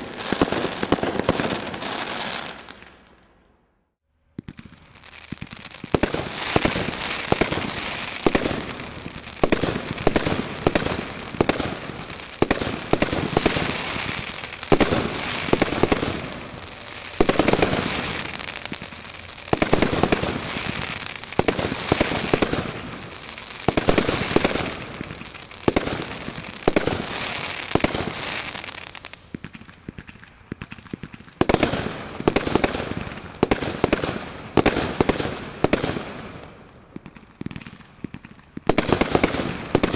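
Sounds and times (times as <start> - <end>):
fireworks launching and bursting: 0.0 - 39.9.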